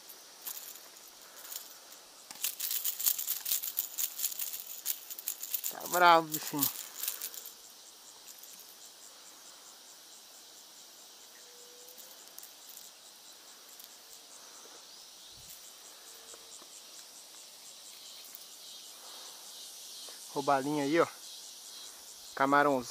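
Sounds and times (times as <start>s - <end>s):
insects chirring: 0.0s - 22.9s.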